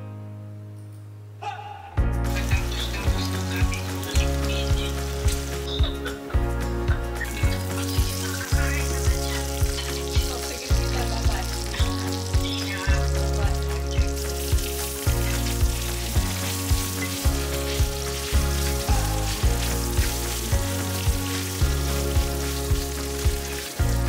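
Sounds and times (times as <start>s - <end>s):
background music with a beat: 2.0s - 24.0s
ribs sizzling in a skillet: 2.2s - 24.0s.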